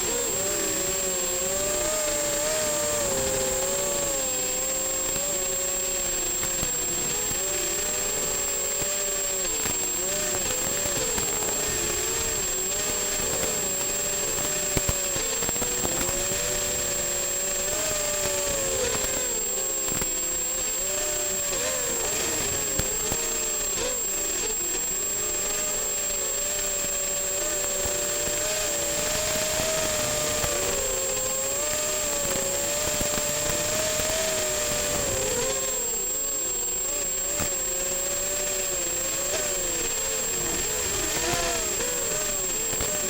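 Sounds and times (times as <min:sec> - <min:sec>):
quadcopter propellers whirring: 0:00.0 - 0:43.0
thin high whine: 0:00.0 - 0:43.0.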